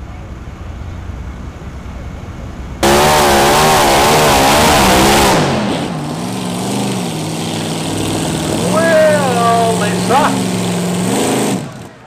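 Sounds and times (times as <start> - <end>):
pulling tractor engines revving: 0.0 - 12.0.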